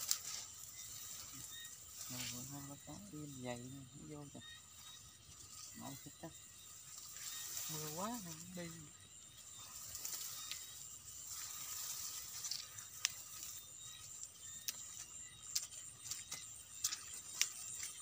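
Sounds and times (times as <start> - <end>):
footsteps through dry grass: 0.0 - 3.5, 4.3 - 18.0
night insects chirring: 0.0 - 18.0.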